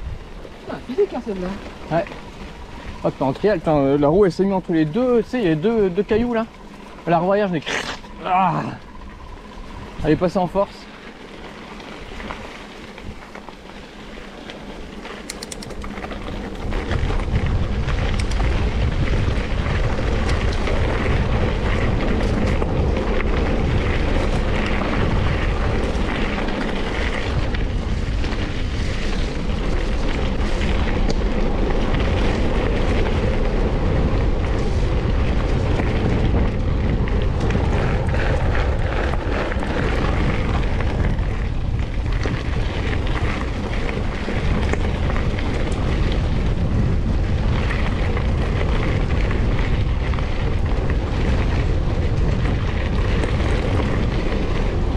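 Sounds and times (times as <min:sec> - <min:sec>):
bike tyres rolling on gravel: 0:00.0 - 0:54.9
wind buffeting microphone: 0:00.0 - 0:54.9.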